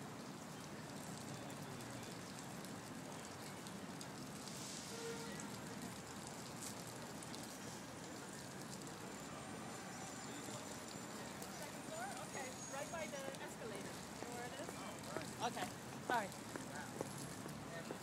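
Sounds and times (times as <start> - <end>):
city background hiss: 0.0 - 18.0.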